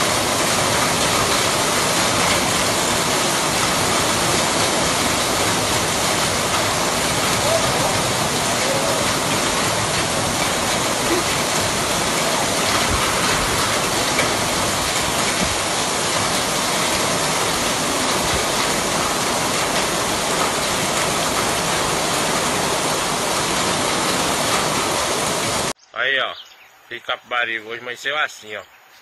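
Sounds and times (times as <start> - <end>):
heavy rain pouring: 0.0 - 25.8
water running over street: 0.0 - 25.8.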